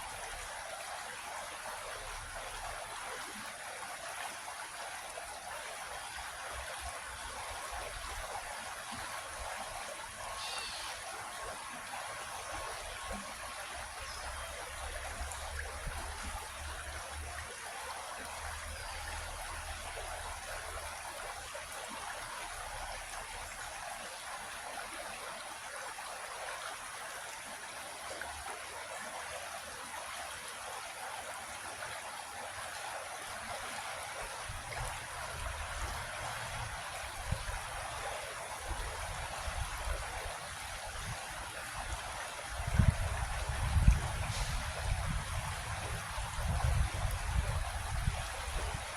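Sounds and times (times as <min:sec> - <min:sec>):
creek water rushing and trickling: 0:00.0 - 0:48.9.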